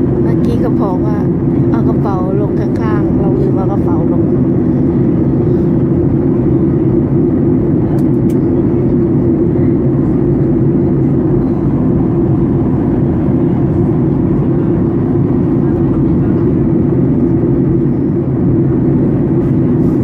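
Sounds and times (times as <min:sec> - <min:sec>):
airliner engine rumble in cabin: 0:00.0 - 0:20.0.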